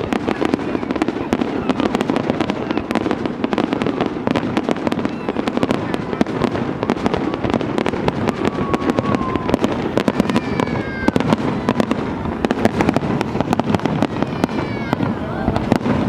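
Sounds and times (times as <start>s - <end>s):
falling fireworks whistles: 0.0s - 16.0s
fireworks bangs and crackles: 0.0s - 16.0s.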